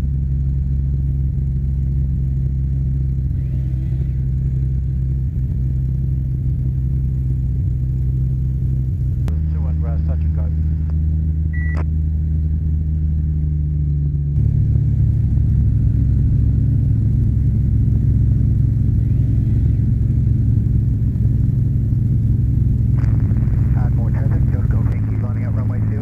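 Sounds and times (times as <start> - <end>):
airplane engine and propeller droning: 0.0 - 26.0.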